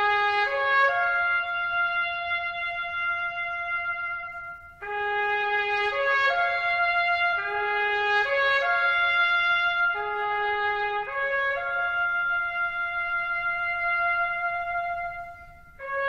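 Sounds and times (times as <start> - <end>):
solo trumpet long notes: 0.0 - 16.0.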